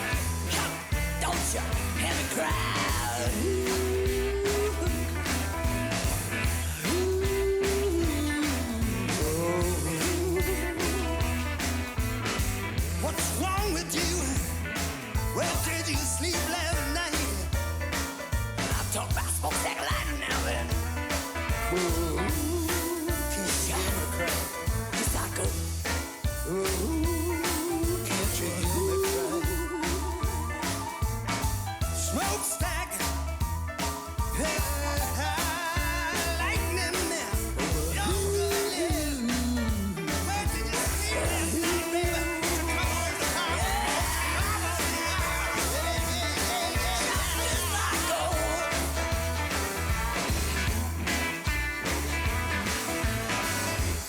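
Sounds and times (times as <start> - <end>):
person singing: 0.0 - 11.9, 12.8 - 17.8, 18.6 - 50.4
bass and drum beat: 0.0 - 54.0
electric guitar: 0.0 - 54.0.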